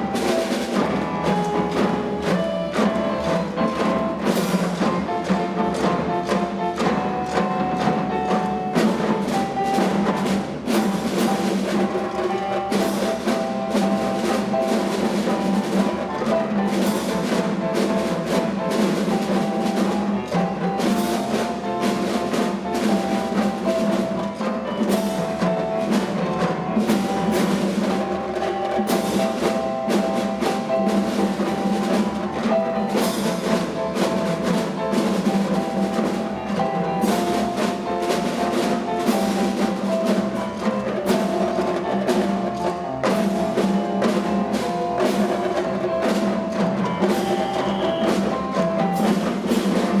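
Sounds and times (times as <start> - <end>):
drums: 0.0 - 50.0
held melody: 0.0 - 50.0.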